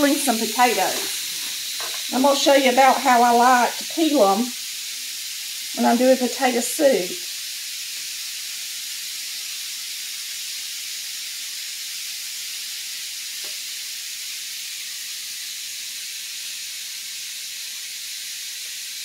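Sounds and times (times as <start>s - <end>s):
bacon sizzling in a skillet: 0.0s - 19.0s.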